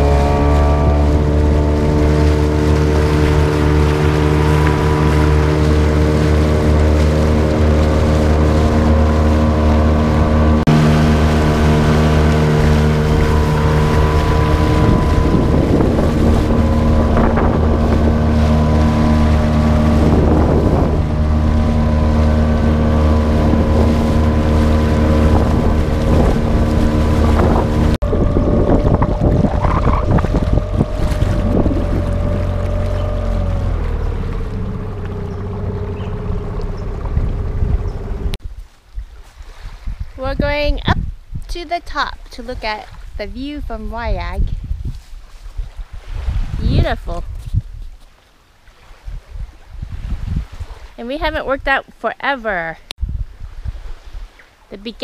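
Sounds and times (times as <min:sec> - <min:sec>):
motorboat engine running: 0:00.0 - 0:38.5, 0:39.4 - 0:55.0
wind buffeting microphone: 0:00.0 - 0:48.2, 0:48.8 - 0:55.0
water splashing: 0:00.0 - 0:55.0.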